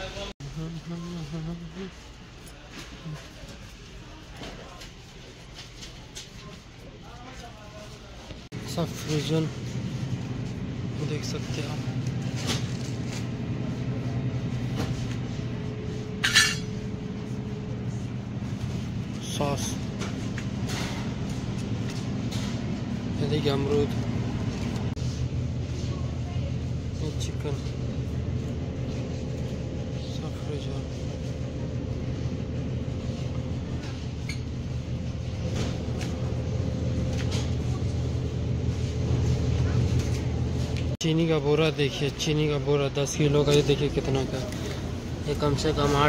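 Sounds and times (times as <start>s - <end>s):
freezers humming: 0.0s - 46.0s.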